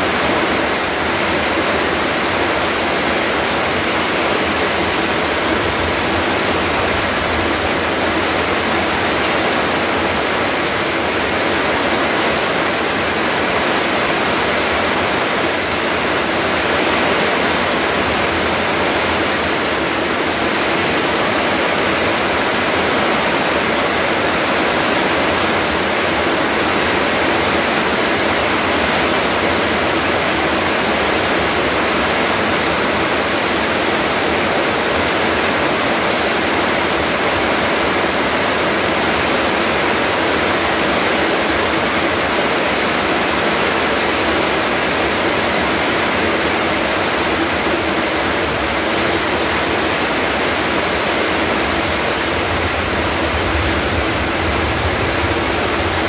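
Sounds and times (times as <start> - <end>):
heavy rain on leaves and paving: 0.0 - 56.0.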